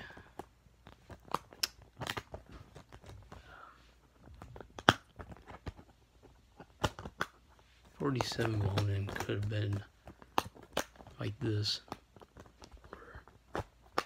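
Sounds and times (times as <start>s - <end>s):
plastic disc case clicks and rattles: 0.0s - 3.4s, 4.3s - 14.0s.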